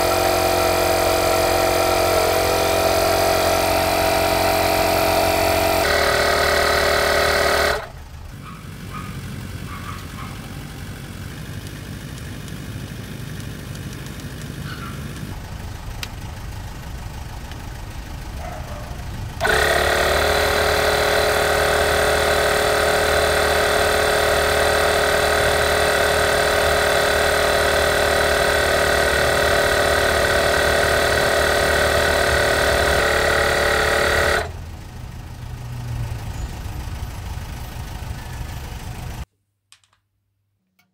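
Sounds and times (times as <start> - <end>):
tyre compressor motor humming: 0.0 - 39.3.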